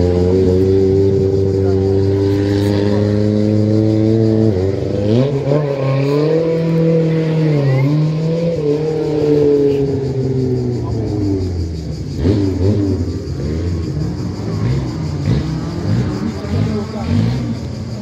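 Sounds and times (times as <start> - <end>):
car engine at high revs: 0.0 - 18.0.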